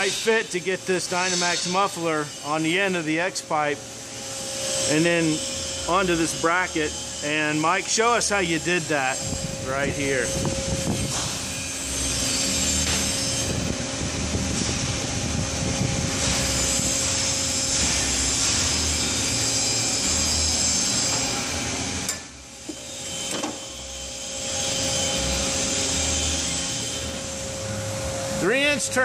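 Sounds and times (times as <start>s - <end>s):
steady shop hiss: 0.0s - 29.0s.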